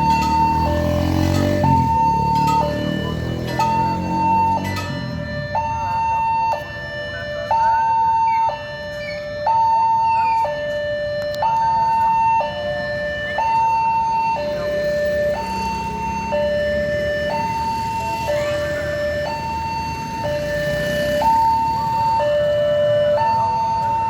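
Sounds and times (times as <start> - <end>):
level-crossing two-tone warning siren: 0.0 - 24.0.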